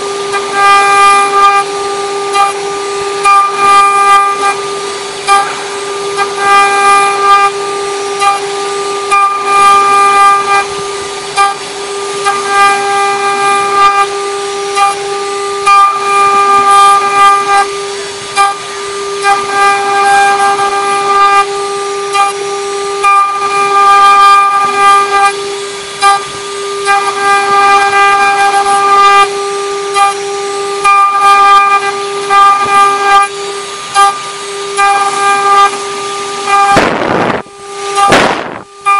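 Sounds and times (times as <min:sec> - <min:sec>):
machine spindle whining: 0:00.0 - 0:38.9.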